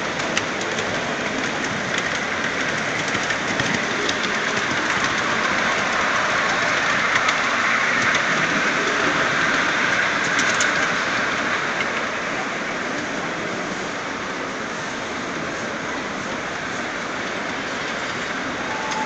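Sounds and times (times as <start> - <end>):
model train rolling on track: 0.0 - 19.0
wheels clicking on rails: 0.0 - 19.0.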